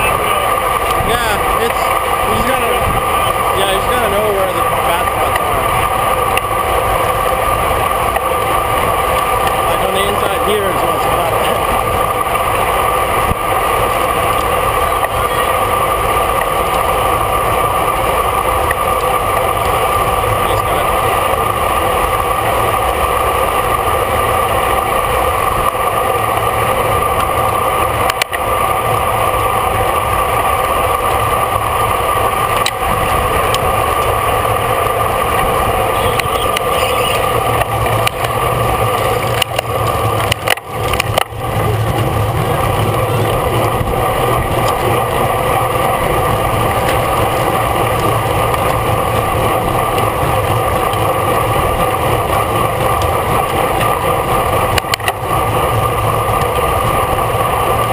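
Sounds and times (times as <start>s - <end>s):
wind and road noise from bicycle: 0.0s - 57.9s.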